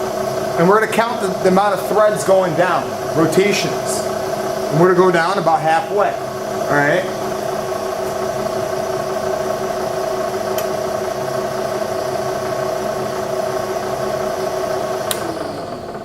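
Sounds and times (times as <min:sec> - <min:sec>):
milling machine humming: 0:00.0 - 0:16.0.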